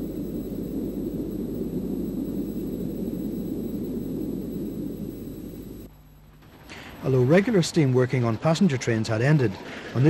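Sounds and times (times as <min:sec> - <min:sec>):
distant train rumble: 0:00.0 - 0:08.1.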